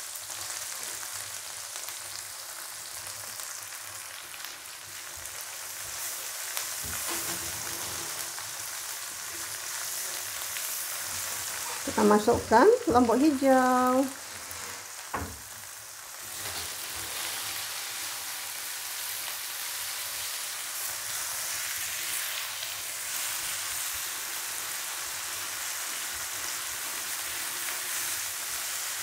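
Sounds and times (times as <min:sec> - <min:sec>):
chillies sizzling in hot oil: 0:00.0 - 0:29.0.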